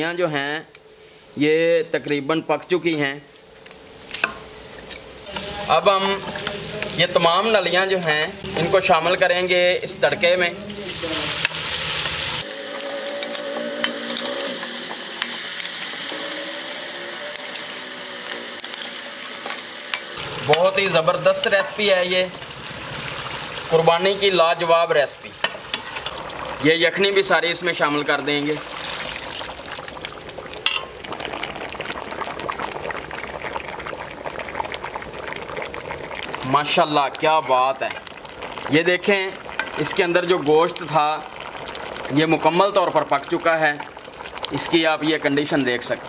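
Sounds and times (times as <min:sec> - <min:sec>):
spices sizzling in a pot: 0:00.0 - 0:46.0.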